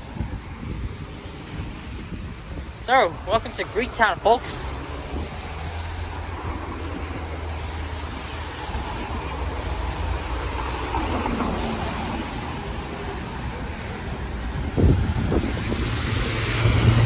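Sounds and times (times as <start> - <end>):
cars passing on wet pavement: 0.0 - 17.0.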